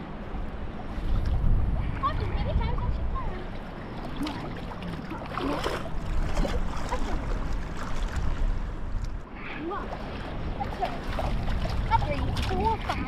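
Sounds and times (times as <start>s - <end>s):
seawater lapping and sloshing: 0.0s - 13.0s.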